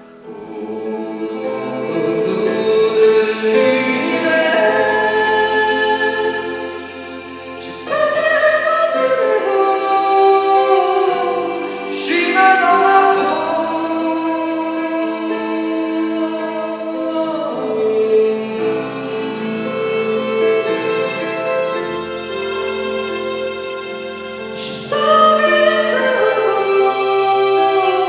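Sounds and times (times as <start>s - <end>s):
man singing long notes: 0.0s - 21.5s, 24.5s - 28.0s
choir singing: 0.0s - 28.0s
keyboard accompaniment: 0.0s - 28.0s.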